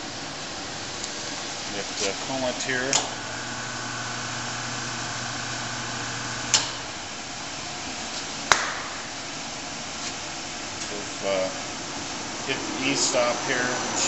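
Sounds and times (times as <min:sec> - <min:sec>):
coolant pump humming: 0:00.0 - 0:14.0.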